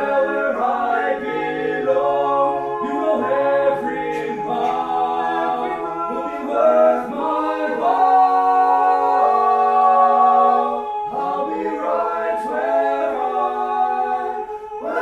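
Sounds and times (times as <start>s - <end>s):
voices singing in harmony: 0.0s - 15.0s.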